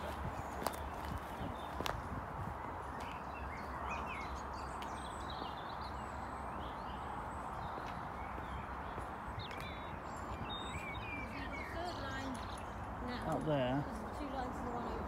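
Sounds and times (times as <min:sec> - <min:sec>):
footsteps on tarmac: 0:00.0 - 0:15.0
small birds chirping: 0:00.0 - 0:15.0
steady outdoor hiss: 0:00.0 - 0:15.0.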